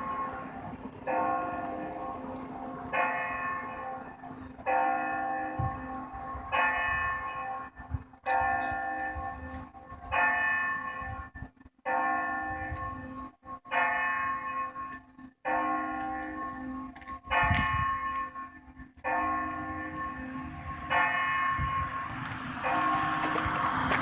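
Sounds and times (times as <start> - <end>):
church bell tolling: 0.0 - 23.7.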